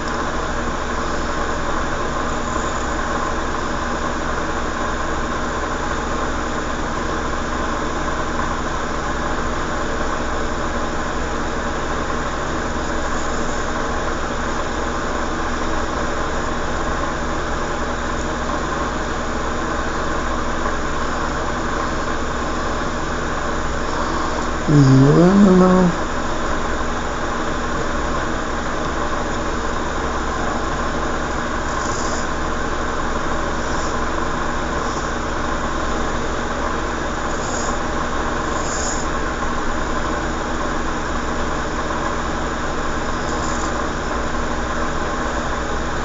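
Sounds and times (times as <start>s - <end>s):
mechanical hum with hiss: 0.0s - 46.0s.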